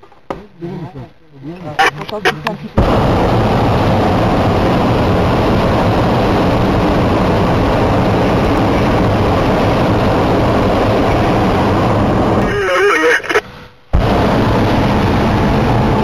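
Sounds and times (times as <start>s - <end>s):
propane burner blasting: 2.8s - 16.0s.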